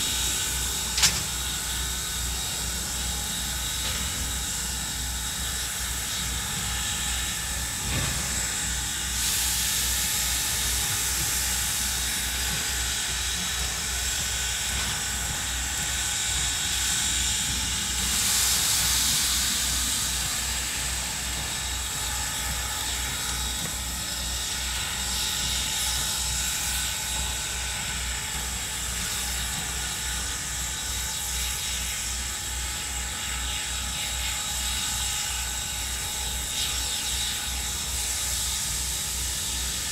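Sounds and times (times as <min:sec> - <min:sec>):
steam hissing: 0:00.0 - 0:39.9
steam locomotive chugging: 0:00.0 - 0:39.9.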